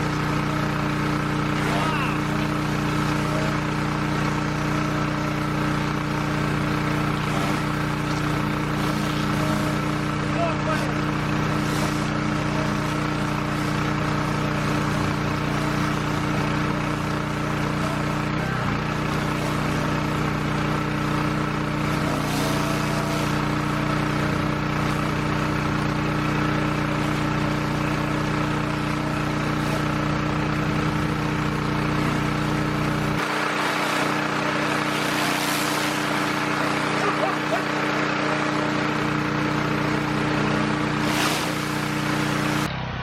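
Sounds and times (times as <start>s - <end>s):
high-pressure water spraying: 0.0s - 43.0s
pressure washer engine running: 0.0s - 43.0s.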